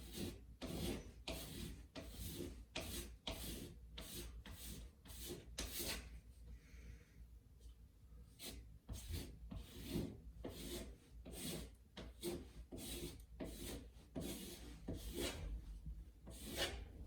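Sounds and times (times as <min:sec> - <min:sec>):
hand tool scraping drywall: 0:00.0 - 0:06.1, 0:08.4 - 0:17.0.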